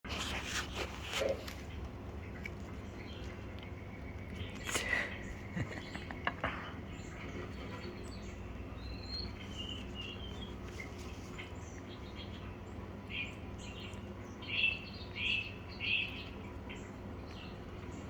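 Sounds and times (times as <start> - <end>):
low background hum: 0.1 - 18.0
small birds chirping: 0.1 - 18.0.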